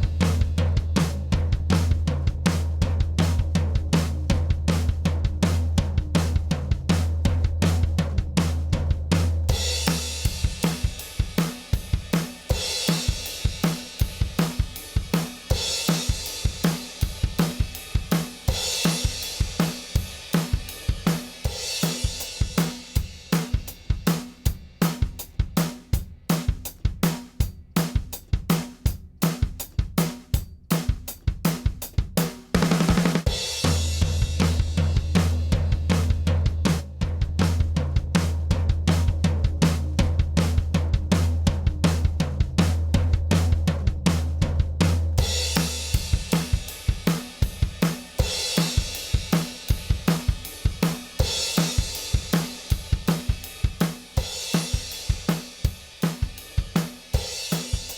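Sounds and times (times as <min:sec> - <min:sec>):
drum kit groove: 0:00.0 - 0:57.9.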